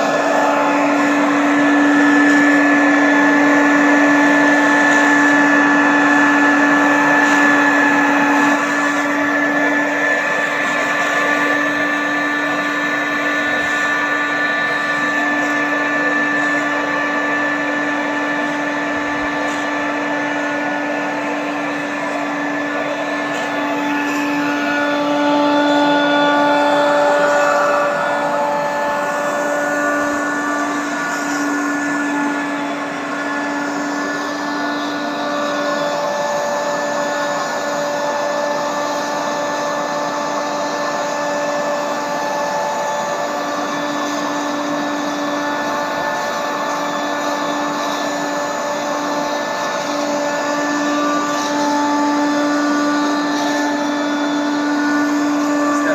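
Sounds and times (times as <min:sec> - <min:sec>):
wet vacuum motor whining: 0:00.0 - 0:55.9.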